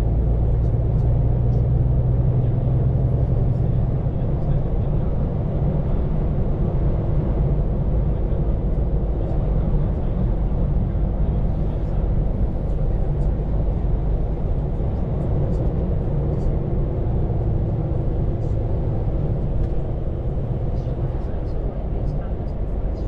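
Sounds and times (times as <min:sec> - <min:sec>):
road and tyre noise: 0:00.0 - 0:23.0
truck diesel engine drone: 0:00.0 - 0:23.0.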